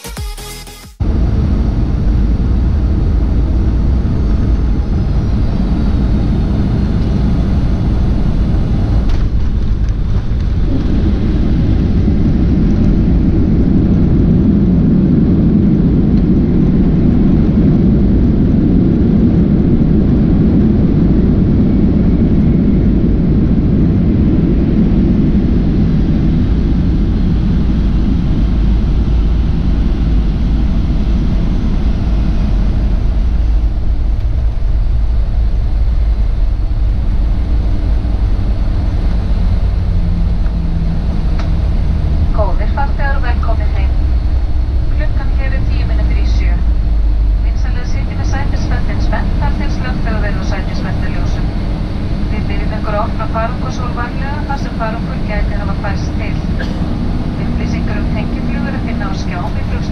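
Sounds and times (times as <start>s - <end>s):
jet engine cabin rumble: 1.0s - 59.9s.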